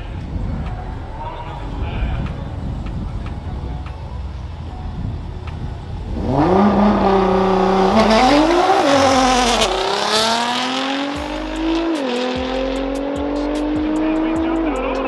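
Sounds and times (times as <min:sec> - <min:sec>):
cars accelerating hard: 0:00.0 - 0:15.0.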